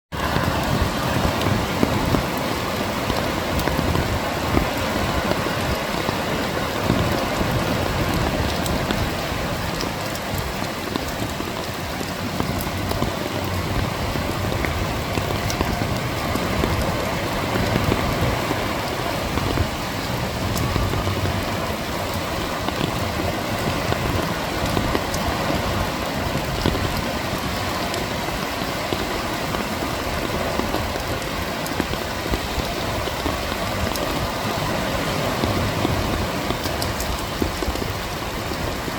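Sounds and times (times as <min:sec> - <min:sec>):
steady rain: 0:00.1 - 0:38.9
waves washing under a pier: 0:00.1 - 0:38.9.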